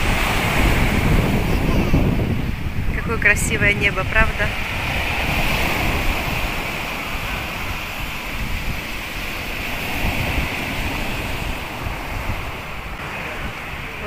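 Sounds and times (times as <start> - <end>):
sea waves breaking on shore: 0.0 - 14.0
wind rumbling on microphone: 0.0 - 14.0.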